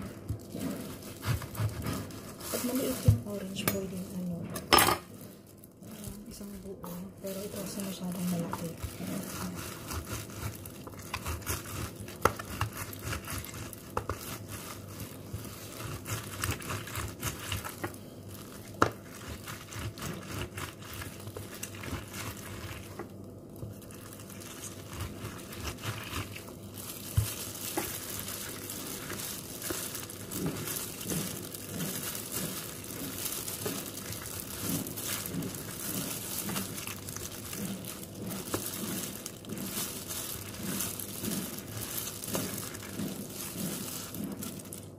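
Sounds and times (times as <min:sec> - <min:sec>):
plastic gloves crinkling: 0:00.0 - 0:44.9.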